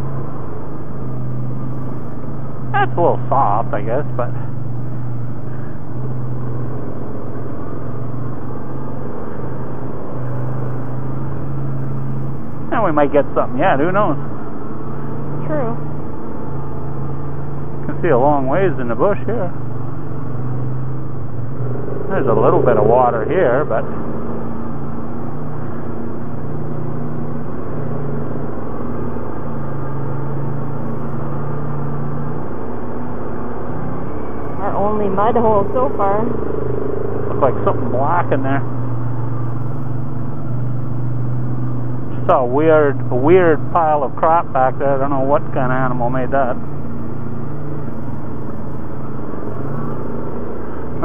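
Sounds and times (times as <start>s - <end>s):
atv engine droning: 0.0s - 51.0s.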